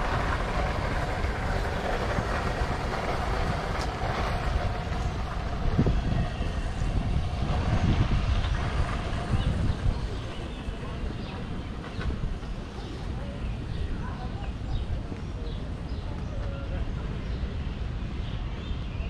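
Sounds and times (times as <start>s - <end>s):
low uneven rumble: 0.0s - 19.0s.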